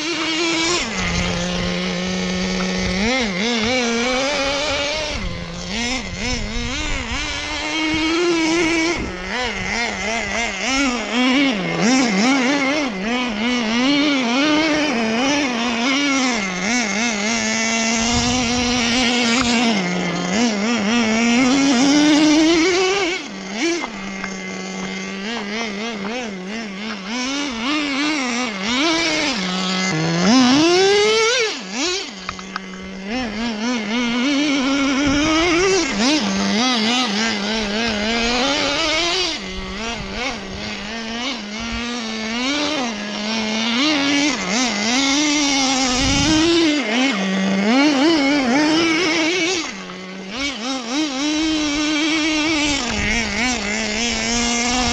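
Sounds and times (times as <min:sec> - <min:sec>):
small model engine buzzing: 0:00.0 - 0:54.9.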